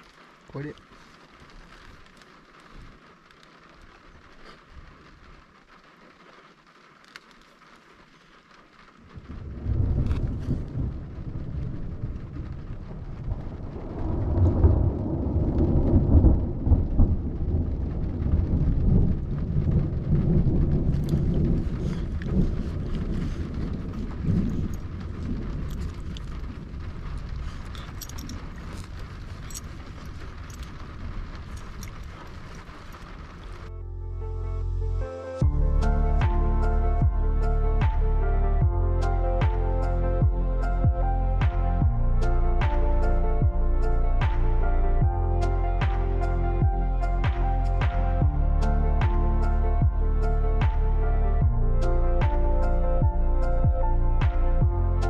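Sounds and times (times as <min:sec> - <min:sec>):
rain falling: 0:00.0 - 0:55.0
thunder rolling: 0:08.1 - 0:33.8, 0:35.4 - 0:55.0.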